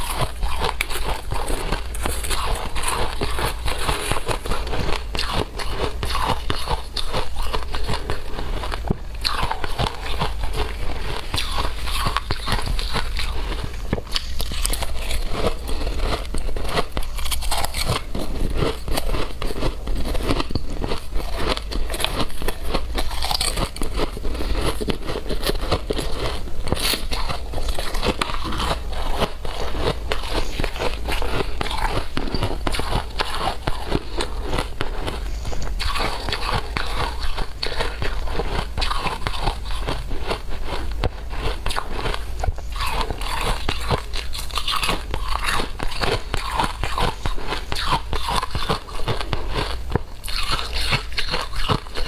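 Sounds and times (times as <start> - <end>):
ice crunching being chewed: 0.0 - 52.0.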